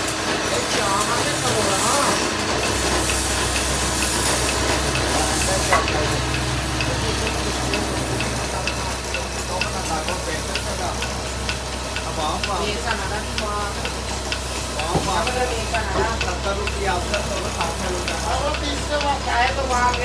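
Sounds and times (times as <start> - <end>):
wood lathe humming: 1.8 - 20.0.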